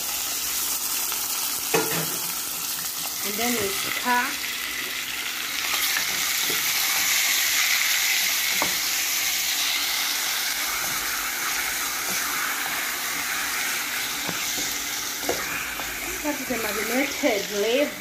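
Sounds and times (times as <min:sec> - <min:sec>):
liver sizzling in a pan: 0:00.0 - 0:18.0.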